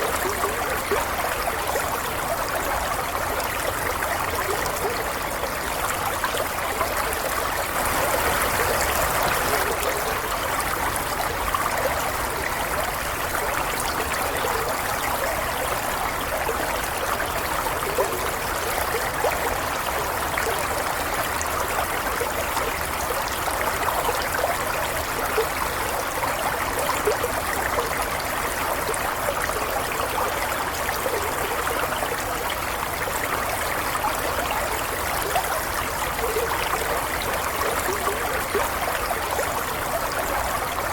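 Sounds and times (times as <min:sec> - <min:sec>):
stream water trickling: 0:00.0 - 0:40.9.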